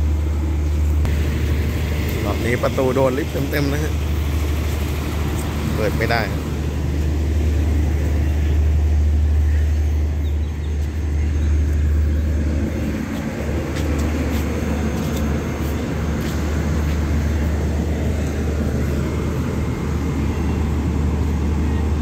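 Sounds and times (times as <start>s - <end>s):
diesel train humming: 0.0s - 22.0s.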